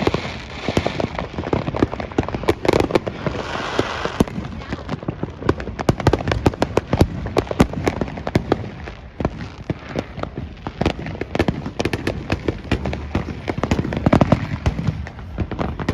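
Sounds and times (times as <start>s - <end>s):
fireworks bangs and crackling: 0.0s - 15.9s.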